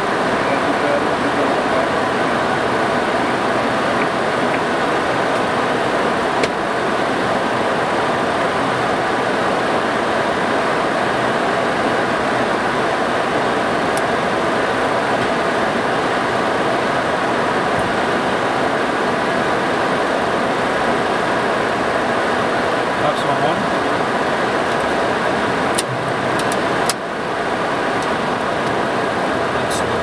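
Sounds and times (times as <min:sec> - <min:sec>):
air rushing past cockpit: 0:00.0 - 0:30.0
engine and cabin hum: 0:00.0 - 0:30.0.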